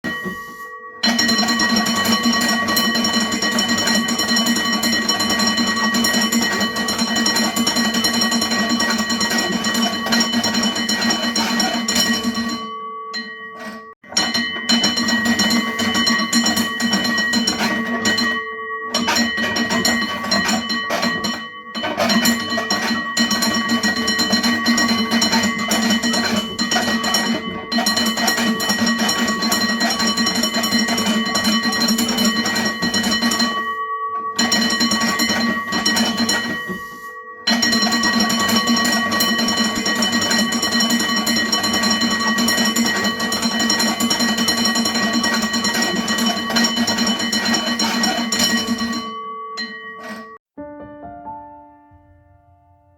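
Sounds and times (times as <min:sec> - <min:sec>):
fire alarm bell ringing: 0:00.0 - 0:50.4.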